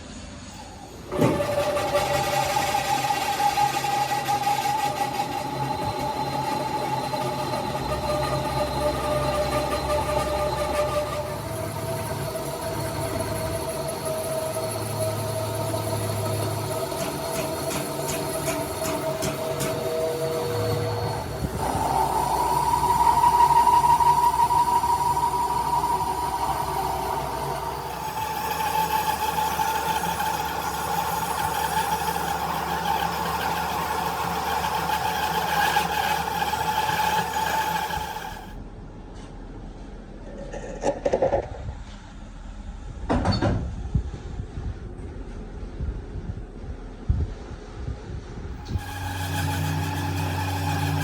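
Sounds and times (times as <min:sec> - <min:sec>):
machinery whining: 0:00.0 - 0:38.7, 0:48.4 - 0:51.0.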